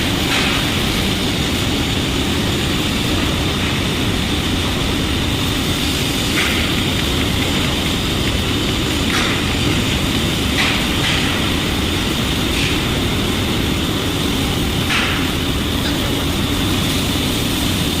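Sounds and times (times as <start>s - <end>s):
welding flares: 0.0s - 18.0s
welding hiss: 0.0s - 18.0s.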